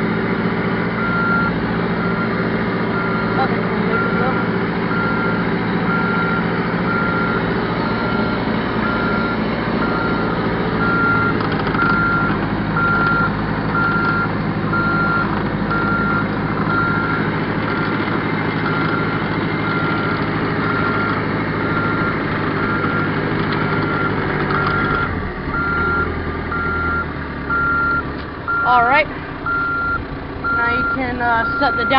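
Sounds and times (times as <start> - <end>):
backhoe engine running: 0.0 - 31.9
backup alarm beeping: 0.9 - 18.0, 18.6 - 31.9.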